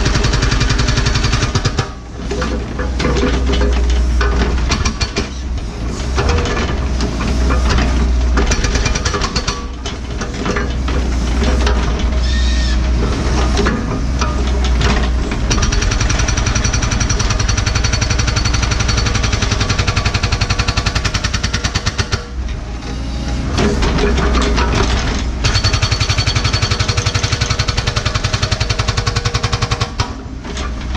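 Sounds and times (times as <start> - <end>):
hydraulic hammer pounding rock: 0.0 - 12.2, 12.8 - 22.4, 23.5 - 30.9
excavator engine running: 0.0 - 30.9.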